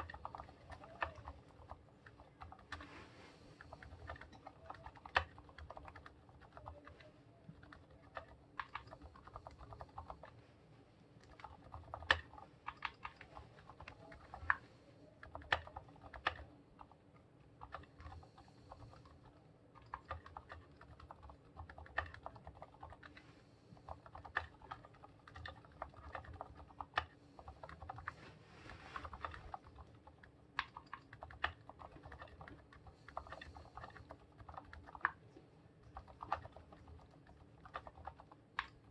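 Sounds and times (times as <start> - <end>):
mechanical keyboard typing: 0.0 - 2.9, 3.8 - 10.4, 11.2 - 14.6, 15.2 - 17.0, 17.6 - 23.2, 23.8 - 28.2, 29.0 - 38.9.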